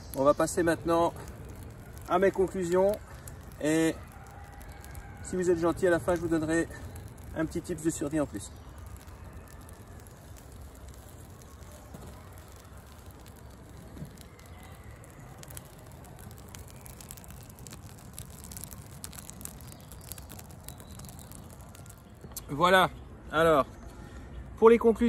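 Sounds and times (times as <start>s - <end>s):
faint pops and ticks: 0.0s - 22.7s
small fire crackling softly: 0.0s - 25.0s.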